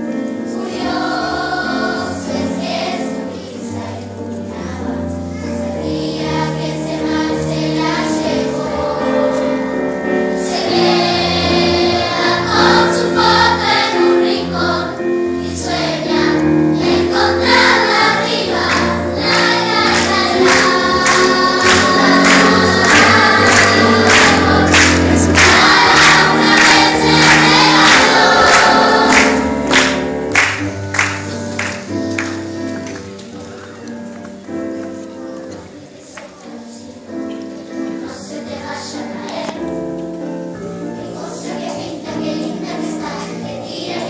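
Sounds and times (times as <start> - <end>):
children's choir singing: 0.0 - 44.0.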